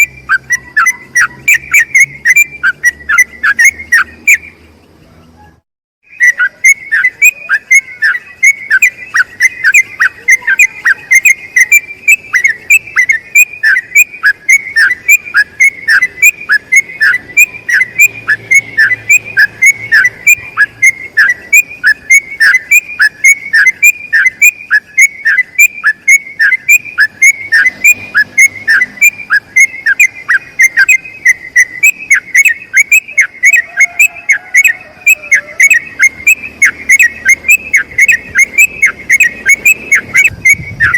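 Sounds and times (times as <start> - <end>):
bird singing whistled notes: 0.0 - 40.9.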